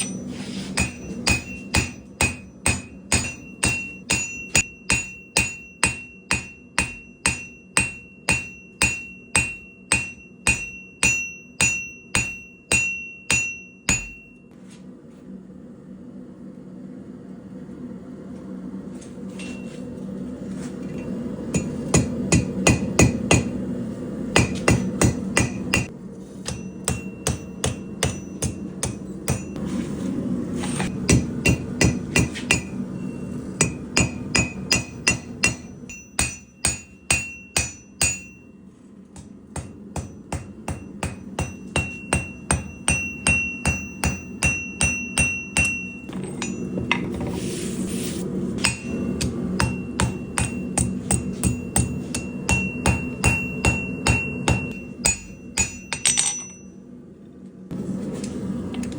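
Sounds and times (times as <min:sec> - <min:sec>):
hammer striking metal on anvil: 0:00.0 - 0:14.5, 0:21.0 - 0:23.6, 0:24.3 - 0:29.7, 0:30.7 - 0:47.1, 0:48.6 - 0:56.9
steady low hum: 0:00.0 - 0:58.9.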